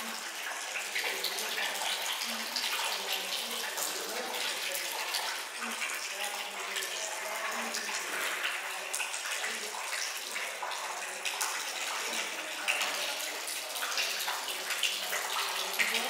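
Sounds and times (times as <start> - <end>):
water trickling into basin: 0.0 - 16.0.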